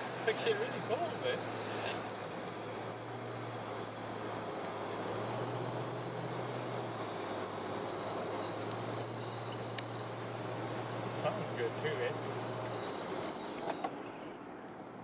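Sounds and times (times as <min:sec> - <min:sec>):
high-pitched whine: 0:00.0 - 0:14.6
car engine hum: 0:00.0 - 0:15.0
road and tyre noise: 0:00.0 - 0:15.0.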